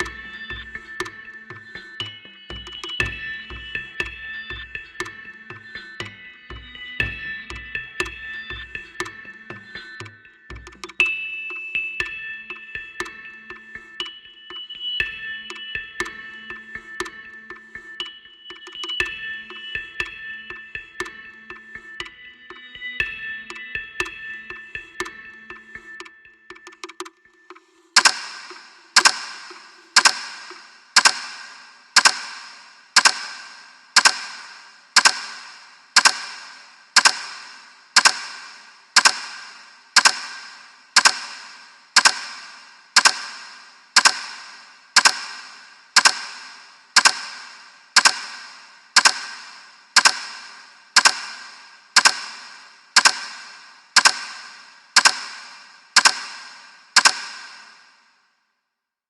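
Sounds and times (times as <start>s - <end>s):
timer ticking: 0.0s - 57.8s.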